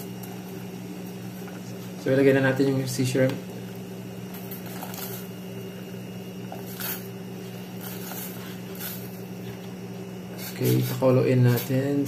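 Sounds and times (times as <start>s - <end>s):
steady low hum: 0.0s - 12.0s
water boiling in a pot: 0.0s - 12.0s.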